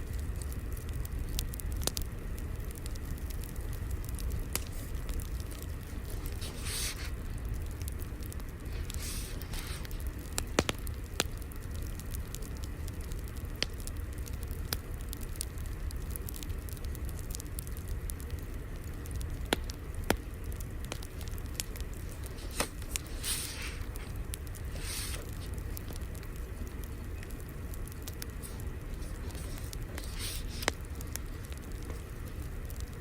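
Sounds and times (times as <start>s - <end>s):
fire hissing: 0.0s - 33.0s
wood fire crackling: 0.0s - 33.0s.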